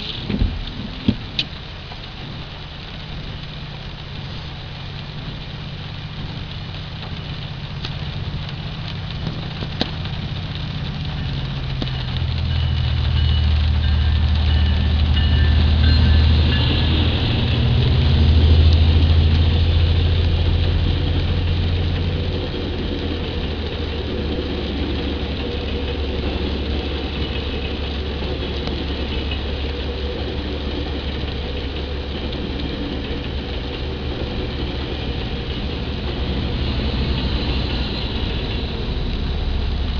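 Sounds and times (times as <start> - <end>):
diesel locomotive engine drone: 0.0 - 39.9
steady rushing noise: 0.0 - 39.9.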